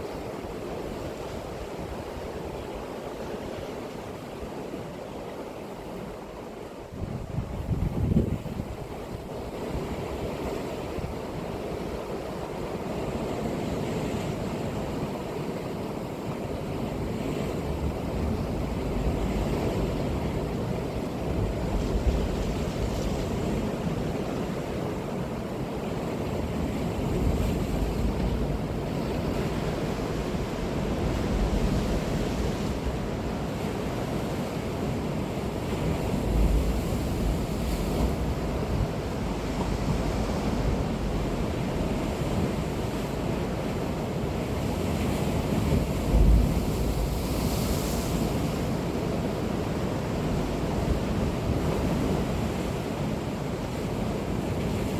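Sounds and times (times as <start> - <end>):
ocean waves breaking: 0.0 - 54.9
wind rumble on microphone: 6.8 - 12.3, 15.8 - 54.9.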